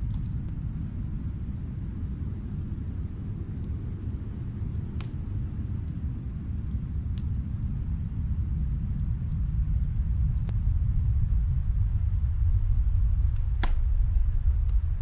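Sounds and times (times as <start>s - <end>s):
fireplace crackling and popping: 0.0s - 15.0s
steady low rumble: 0.0s - 15.0s.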